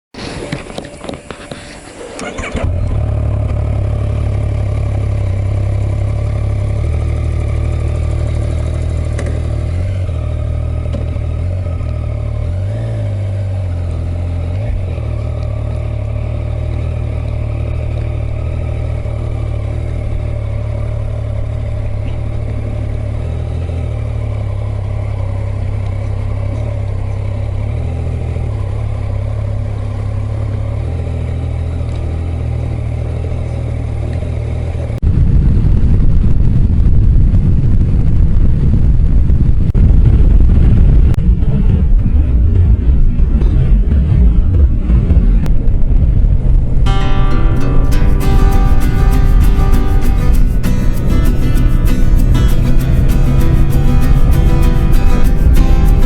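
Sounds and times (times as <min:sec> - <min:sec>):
motorcycle engine running: 0:00.5 - 0:56.0.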